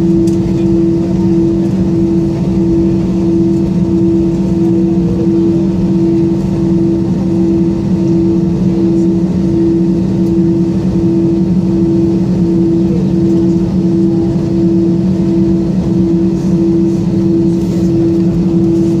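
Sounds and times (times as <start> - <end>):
aircraft cabin drone: 0.0 - 19.0.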